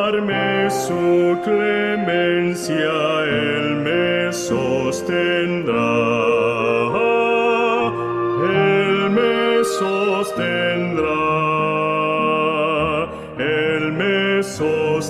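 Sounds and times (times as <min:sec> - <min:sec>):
instrumental accompaniment: 0:00.0 - 0:15.0
slow hymn singing: 0:00.0 - 0:15.0.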